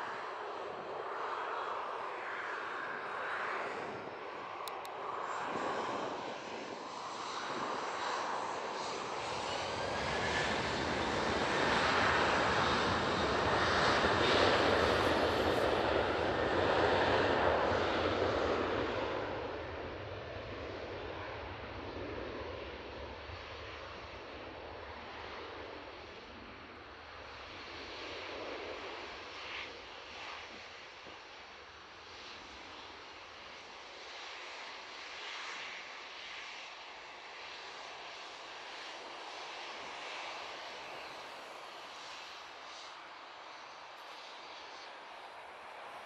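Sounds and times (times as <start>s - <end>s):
jet airliner roar: 0.0s - 46.0s.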